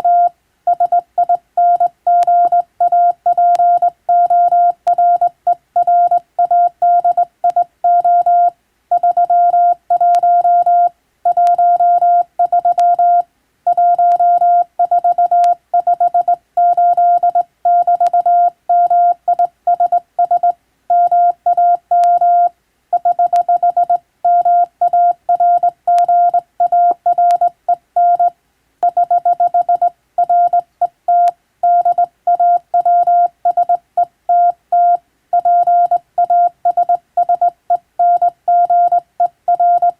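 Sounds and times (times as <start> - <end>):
morse code high-pitched tone: 0.0 - 39.9.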